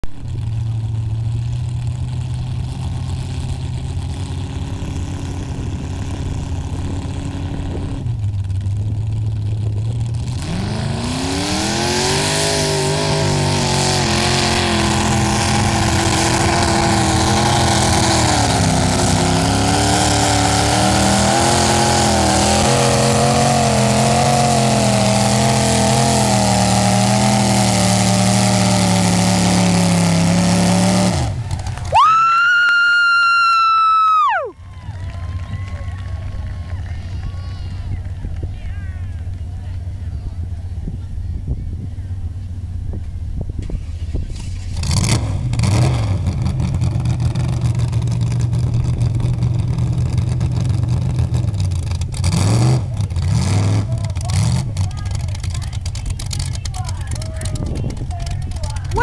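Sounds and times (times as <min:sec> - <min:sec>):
pickup truck engine revving: 0:00.0 - 0:38.5, 0:42.2 - 0:59.0.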